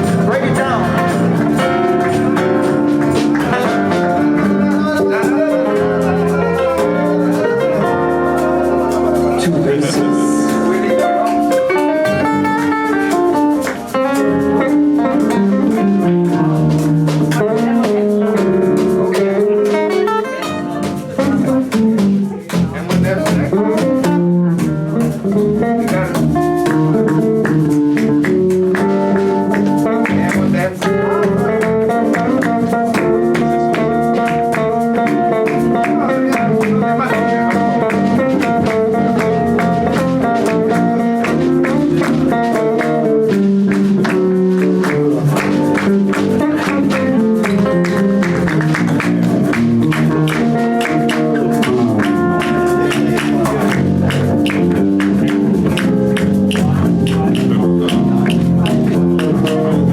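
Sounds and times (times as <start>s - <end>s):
drum kit: 0.0s - 59.9s
guitar: 0.0s - 59.9s
live band playing: 0.0s - 59.9s.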